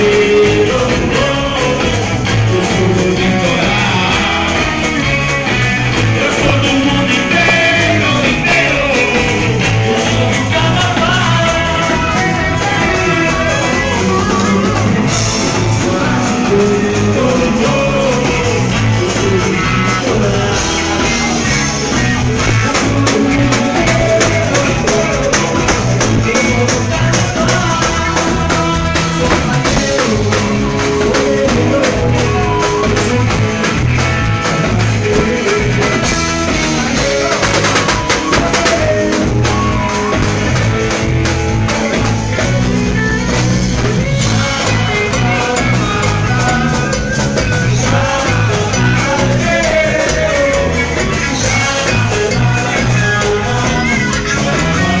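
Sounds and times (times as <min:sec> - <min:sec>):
drum kit beat: 0:00.0 - 0:55.0
guitar: 0:00.0 - 0:55.0
live band playing: 0:00.0 - 0:55.0.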